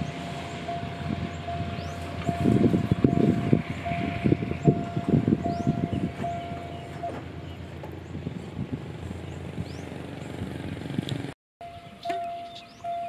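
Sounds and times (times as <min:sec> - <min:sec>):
diesel railcar rumbling: 0:00.0 - 0:13.0
outdoor air noise: 0:00.0 - 0:13.0.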